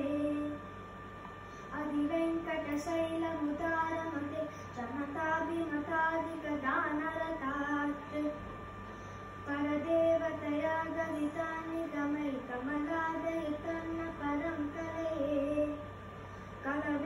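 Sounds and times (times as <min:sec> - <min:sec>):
woman and boy singing: 0:00.0 - 0:00.6, 0:01.7 - 0:08.4, 0:09.5 - 0:15.8, 0:16.6 - 0:17.0.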